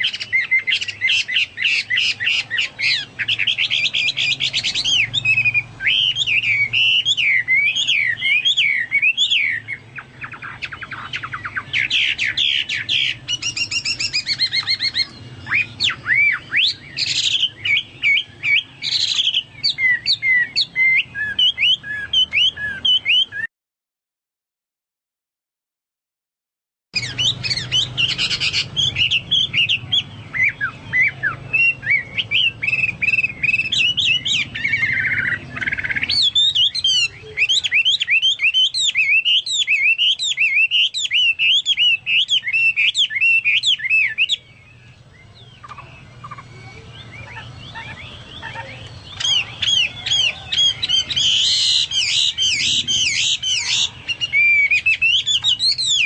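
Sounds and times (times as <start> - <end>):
bird singing whistled notes: 0.0 - 23.5, 27.0 - 56.0.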